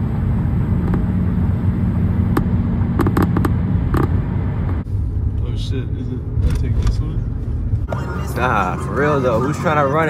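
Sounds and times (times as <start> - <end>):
vehicle engine drone: 0.0 - 10.0.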